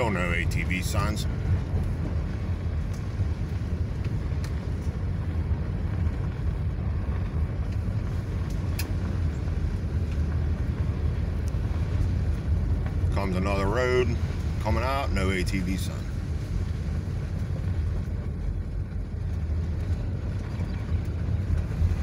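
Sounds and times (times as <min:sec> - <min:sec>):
car driving on gravel road: 0:00.0 - 0:22.0.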